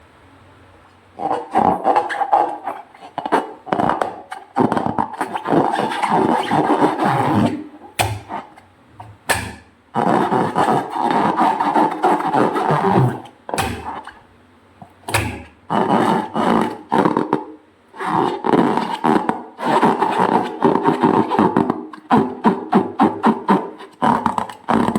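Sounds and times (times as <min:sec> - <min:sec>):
squeaky rubber balloons: 0:01.1 - 0:24.9.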